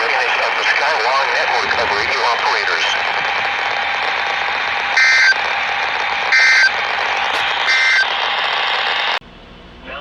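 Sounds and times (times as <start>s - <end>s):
radio reception hiss: 0.0s - 9.2s
buzzy warbling data bursts: 0.9s - 9.2s.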